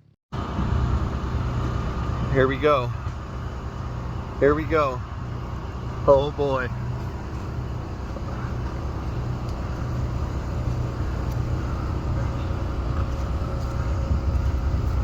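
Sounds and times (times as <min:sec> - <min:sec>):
vehicle engine rumbling: 0:00.3 - 0:15.0.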